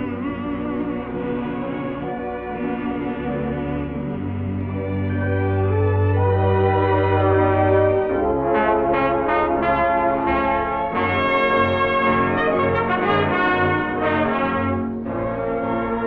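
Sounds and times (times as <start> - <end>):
orchestral music led by brass: 0.0 - 16.0.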